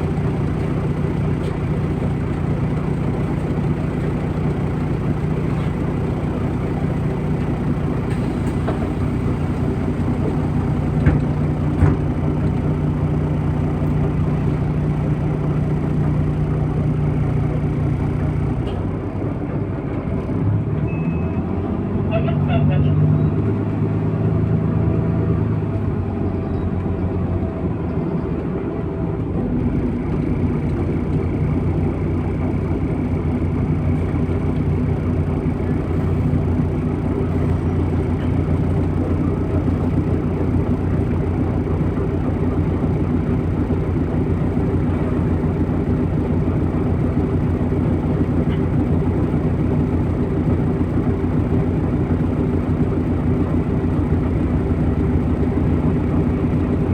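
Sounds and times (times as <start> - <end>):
bus diesel engine running: 0.0 - 56.9
road noise: 0.0 - 56.9.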